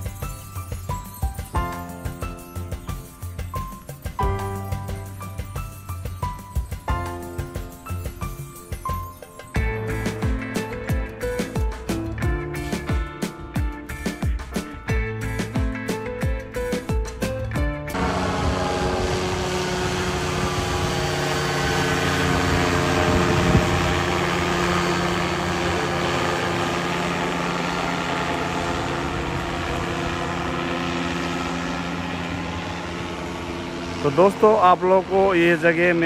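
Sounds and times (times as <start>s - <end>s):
engine drone: 0.0s - 36.0s.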